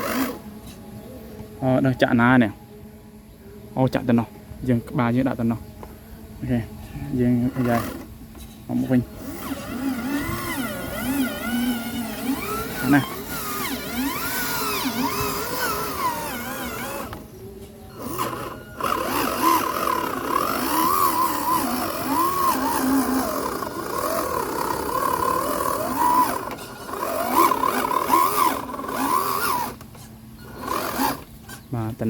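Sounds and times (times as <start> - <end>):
electric motors whining: 0.0 - 2.4, 4.6 - 32.0.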